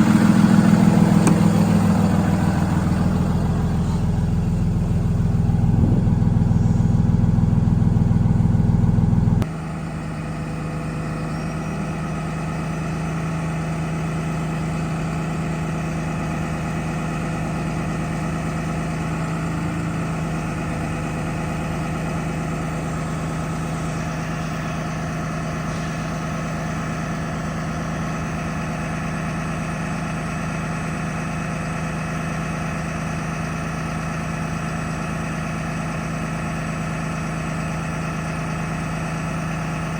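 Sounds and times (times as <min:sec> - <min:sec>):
diesel truck idling: 0:00.0 - 0:39.9.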